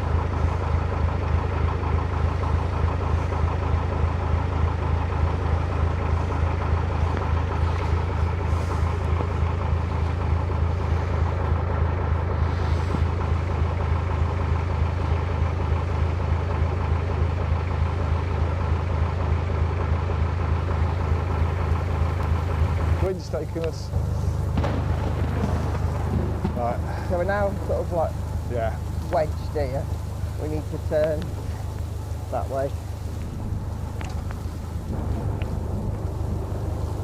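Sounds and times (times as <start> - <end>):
boat engine running at low revs: 0.0 - 37.0.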